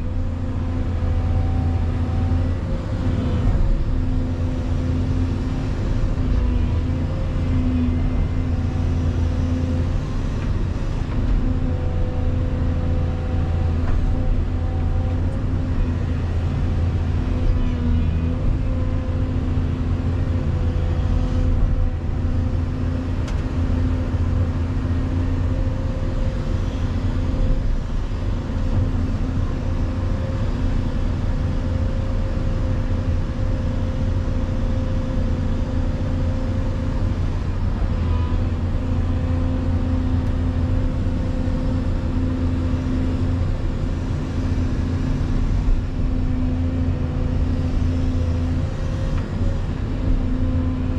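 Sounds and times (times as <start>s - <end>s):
excavator diesel engine droning: 0.0s - 50.9s.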